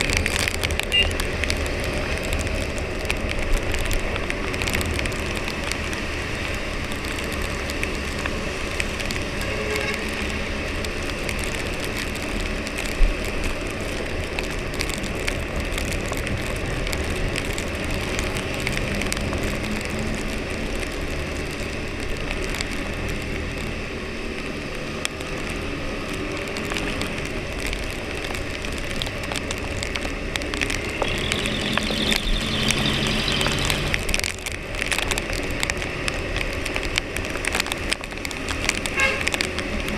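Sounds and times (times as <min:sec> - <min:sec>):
rain and wet road hiss: 0:00.0 - 0:39.9.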